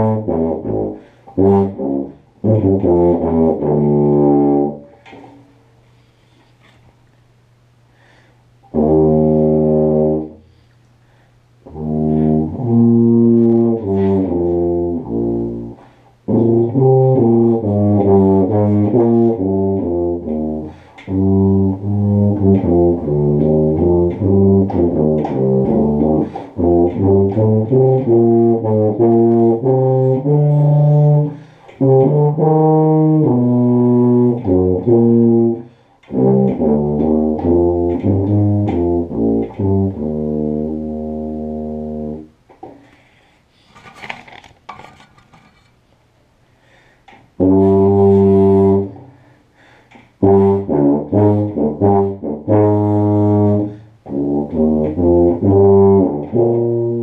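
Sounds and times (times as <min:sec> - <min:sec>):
tuba melody: 0:00.0 - 0:06.8, 0:08.0 - 0:43.1, 0:47.2 - 0:57.0.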